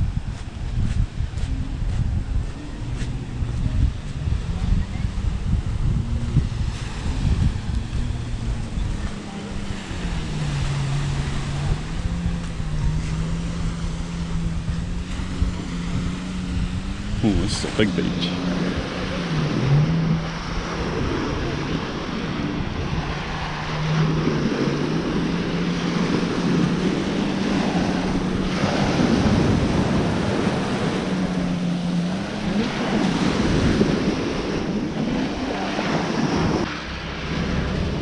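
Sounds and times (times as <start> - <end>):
surf washing on sandy beach: 0.0 - 38.0
wind buffeting microphone: 0.0 - 38.0.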